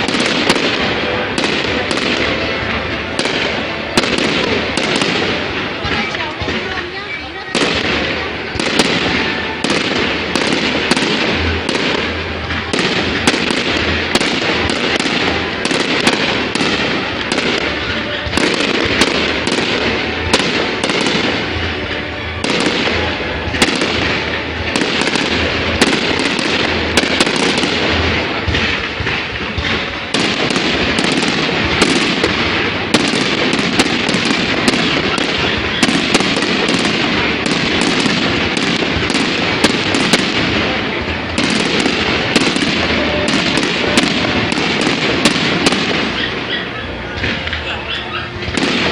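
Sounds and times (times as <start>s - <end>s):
fireworks crackling and banging: 0.0s - 48.9s
low fireworks booms: 0.0s - 48.9s.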